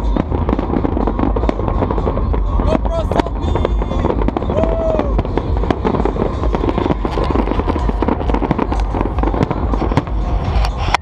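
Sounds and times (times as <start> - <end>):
deep rumble of booms: 0.0 - 11.0
fireworks bangs and crackles: 0.0 - 11.0.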